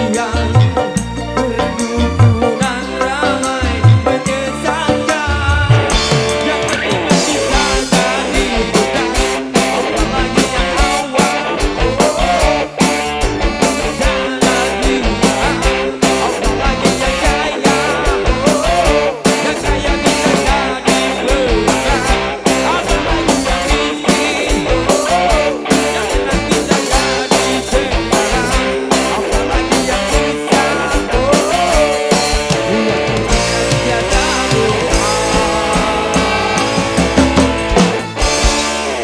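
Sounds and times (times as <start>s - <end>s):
live band playing: 0.0s - 39.0s.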